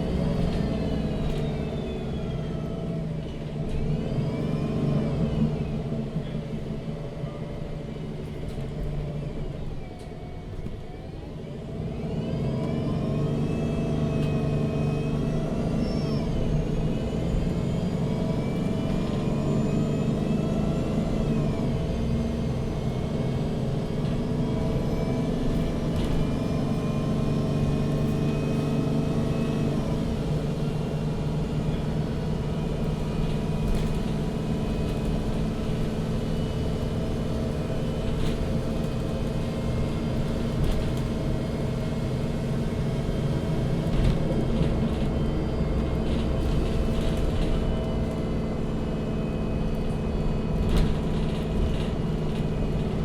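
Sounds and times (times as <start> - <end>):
bus engine low hum: 0.0 - 53.0.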